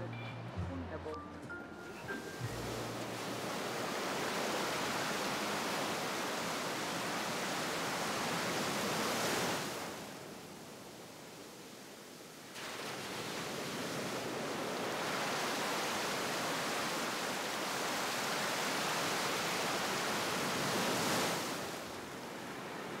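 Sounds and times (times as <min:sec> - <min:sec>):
sea surf washing on shore: 0:01.8 - 0:23.0.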